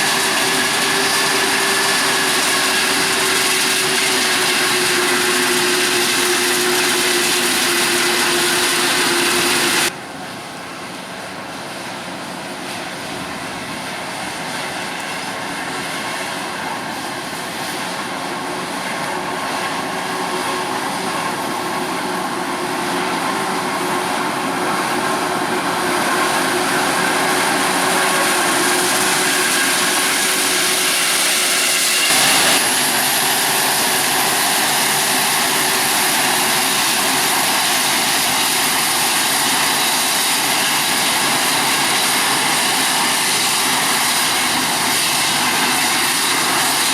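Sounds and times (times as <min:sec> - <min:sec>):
heavy farm machinery engines: 0:00.0 - 0:46.9.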